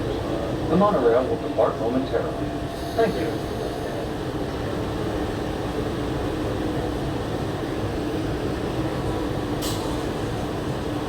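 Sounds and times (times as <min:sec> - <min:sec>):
monorail car hum and rumble: 0:00.0 - 0:11.0.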